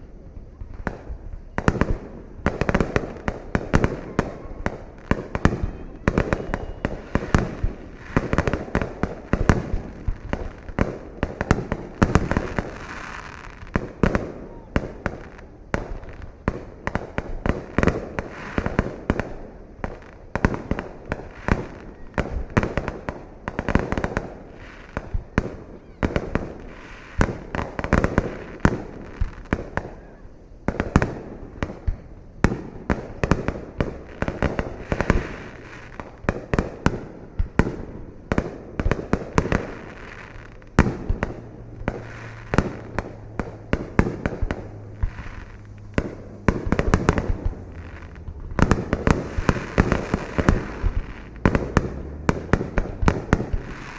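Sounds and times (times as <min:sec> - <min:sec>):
fireworks bangs and booms: 0:00.0 - 0:53.9.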